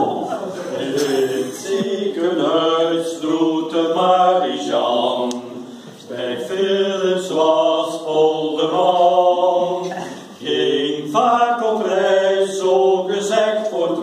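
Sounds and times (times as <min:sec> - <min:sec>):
group of people singing: 0:00.0 - 0:14.0.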